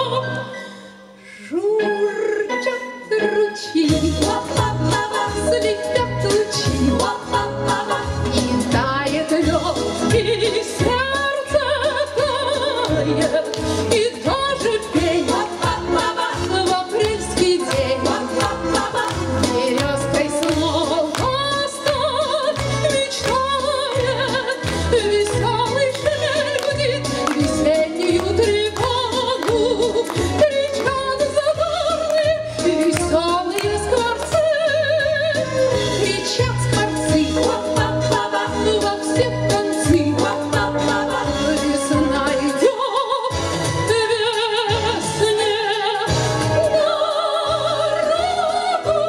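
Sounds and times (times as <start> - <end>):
instrumental accompaniment: 0.0 - 49.0
women singing together: 3.8 - 43.4, 44.0 - 49.0.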